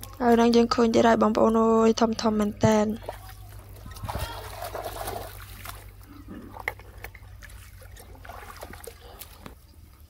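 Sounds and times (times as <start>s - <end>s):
faint water trickle: 0.0s - 10.0s.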